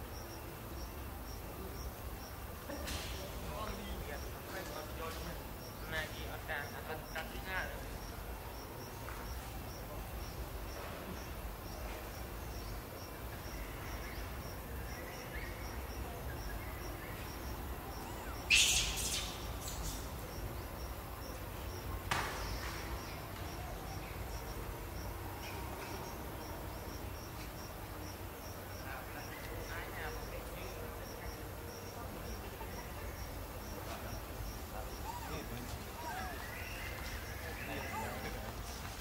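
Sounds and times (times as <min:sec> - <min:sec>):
insect chirping: 0:00.0 - 0:38.8.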